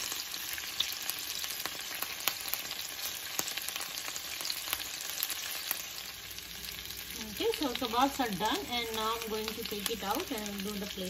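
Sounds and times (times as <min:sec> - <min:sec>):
meat sizzling in oil: 0:00.0 - 0:11.0
oil crackling and popping: 0:00.0 - 0:11.0.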